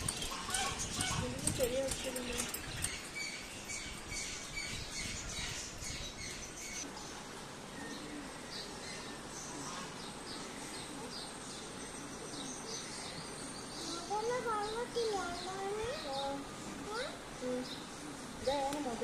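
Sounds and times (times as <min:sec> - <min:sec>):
birds chirping and squawking: 0:00.0 - 0:19.0
outdoor background noise: 0:00.0 - 0:19.0.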